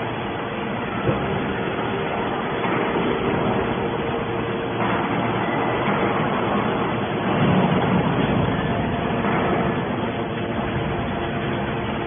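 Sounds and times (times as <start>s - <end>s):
hydraulic baler humming: 0.0s - 12.0s.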